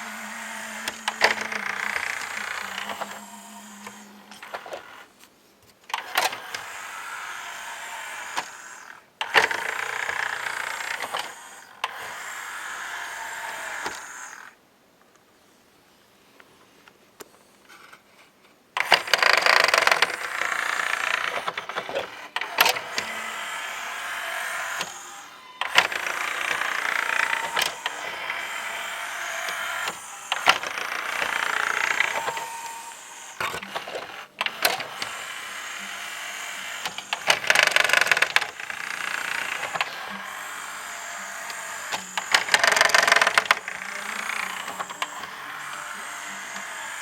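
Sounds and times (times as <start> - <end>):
sharp mechanical clicks: 0.0 - 5.1, 5.9 - 14.6, 18.8 - 47.0
cd tray mechanism whirring: 0.0 - 14.6, 18.8 - 47.0.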